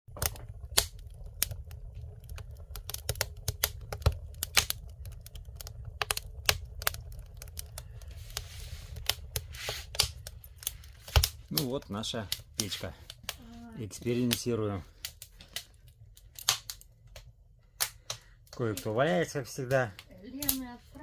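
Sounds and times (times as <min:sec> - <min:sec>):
low steady rumble: 0:00.1 - 0:21.0
wood fire crackling: 0:00.1 - 0:21.0.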